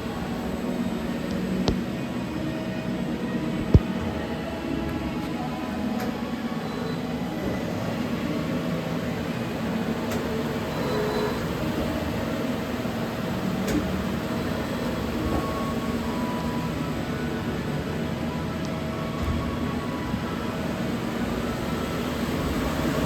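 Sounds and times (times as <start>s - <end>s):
lathe mechanical hum: 0.0s - 23.0s.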